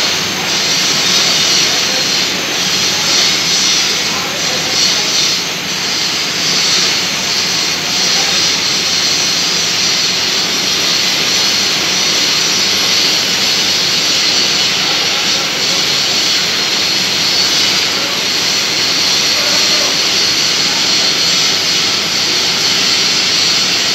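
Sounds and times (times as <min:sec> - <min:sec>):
lathe cutting metal: 0:00.0 - 0:23.9.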